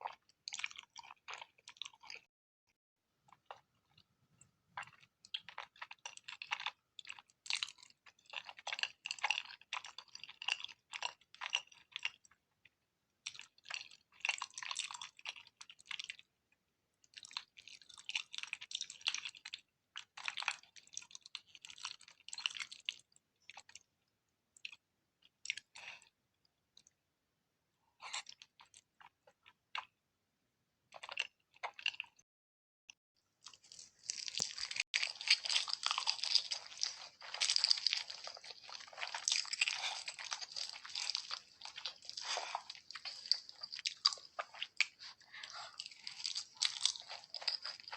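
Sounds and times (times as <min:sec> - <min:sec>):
person chewing food: 0:00.0 - 0:02.3, 0:03.3 - 0:16.3, 0:17.0 - 0:23.9, 0:24.6 - 0:27.0, 0:28.0 - 0:30.0, 0:30.9 - 0:32.2, 0:33.4 - 0:47.9.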